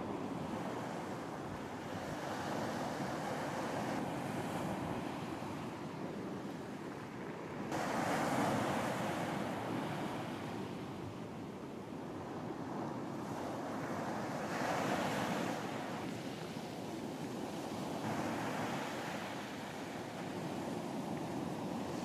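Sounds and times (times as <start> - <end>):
ocean waves breaking on beach: 0.0 - 22.0.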